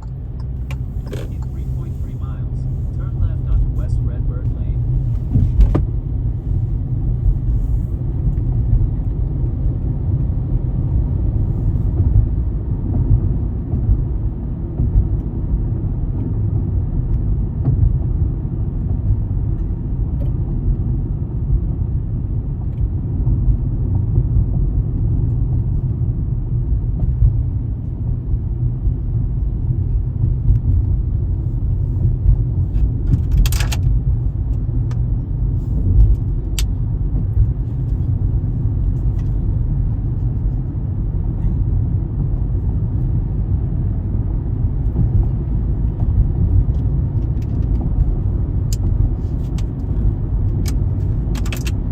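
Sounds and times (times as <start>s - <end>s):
car driving rumble: 0.0s - 51.9s.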